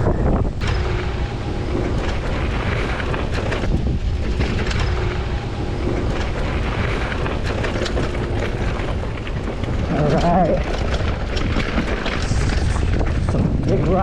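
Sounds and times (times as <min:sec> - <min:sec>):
bike clicks and rattles: 0:00.0 - 0:14.0
tyres rumbling over dirt: 0:00.0 - 0:14.0
wind on microphone: 0:00.0 - 0:14.0.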